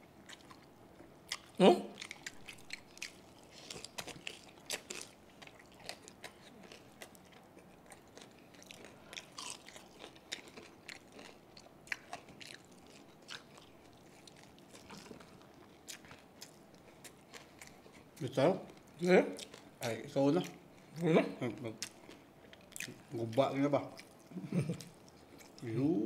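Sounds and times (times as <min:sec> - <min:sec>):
crunchy chewing: 0:00.2 - 0:19.8, 0:21.8 - 0:25.6.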